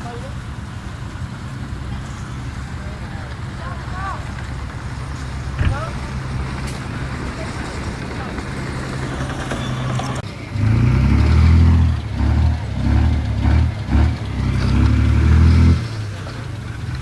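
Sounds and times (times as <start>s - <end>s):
diesel engine idling and revving: 0.0s - 17.0s.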